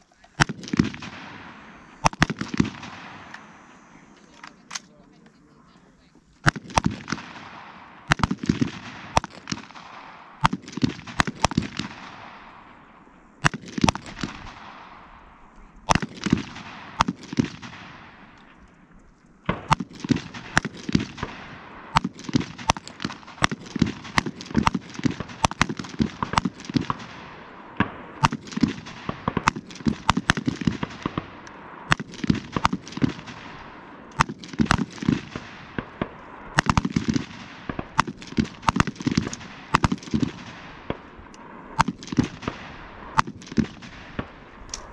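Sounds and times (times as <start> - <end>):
rifle shots with echo: 0.0 - 5.6, 6.4 - 44.9.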